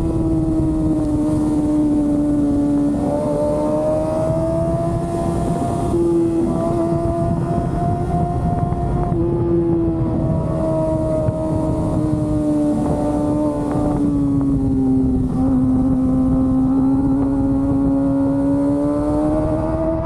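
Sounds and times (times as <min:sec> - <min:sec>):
motorcycle engine at high revs: 0:00.0 - 0:20.0
wind and road rush: 0:00.0 - 0:20.0.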